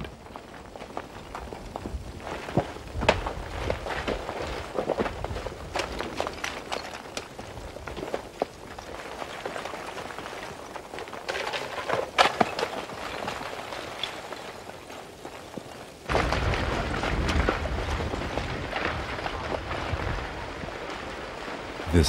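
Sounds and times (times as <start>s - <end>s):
lava blocks crackling and clinking: 0.0s - 22.0s
rushing rumble of loose rock: 0.0s - 22.0s.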